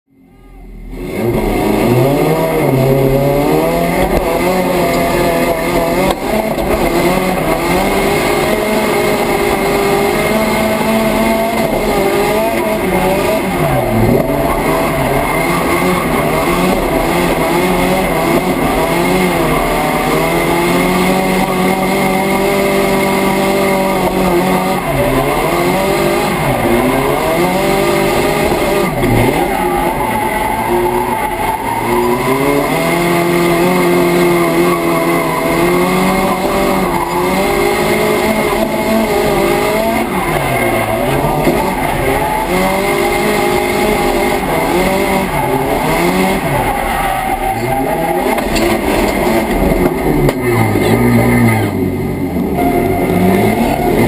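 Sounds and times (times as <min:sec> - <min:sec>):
race car engine revving: 0:00.8 - 0:54.0.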